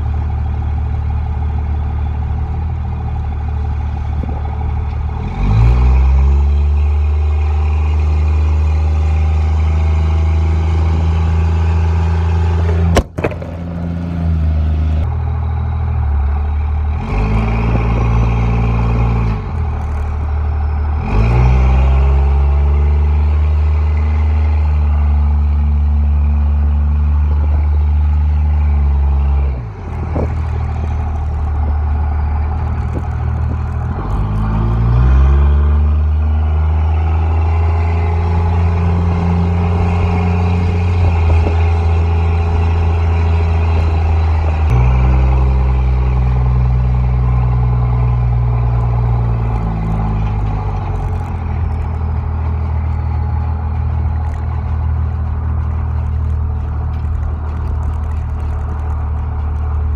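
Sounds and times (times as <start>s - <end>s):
pickup truck engine pulling: 0.0s - 59.9s.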